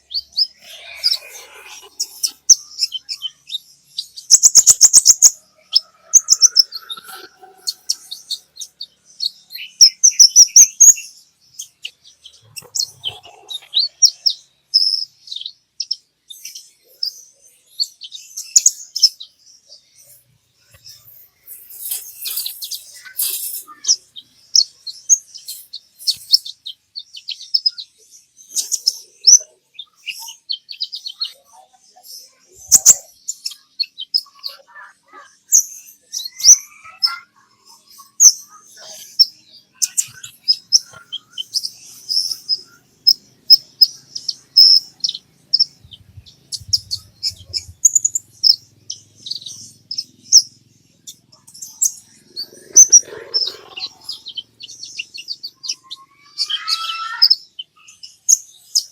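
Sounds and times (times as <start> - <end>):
bird singing rapid chirps and trills: 0.0 - 58.9.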